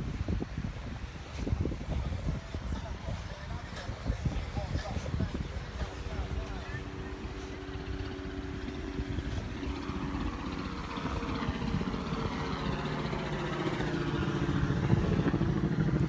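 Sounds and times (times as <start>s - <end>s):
motor engine droning: 0.0s - 16.0s.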